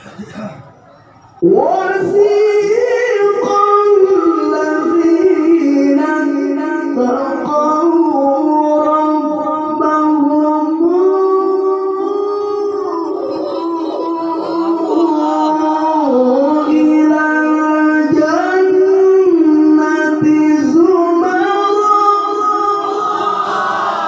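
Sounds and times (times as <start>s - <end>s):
man chanting into microphone: 1.4s - 23.7s.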